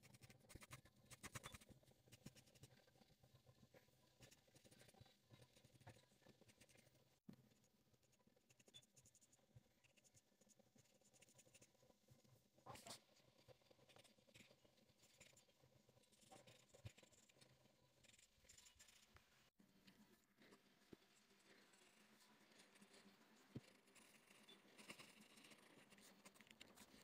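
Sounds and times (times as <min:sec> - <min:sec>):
pencil scratching on paper: 0:00.0 - 0:03.2, 0:04.2 - 0:11.8, 0:12.8 - 0:19.2, 0:21.6 - 0:27.0.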